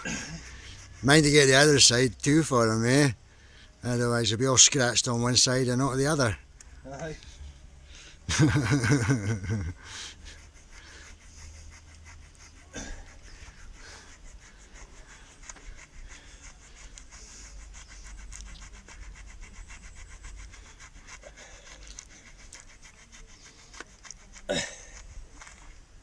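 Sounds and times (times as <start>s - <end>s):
brush scratching horse coat: 0.0s - 3.2s, 3.8s - 26.0s.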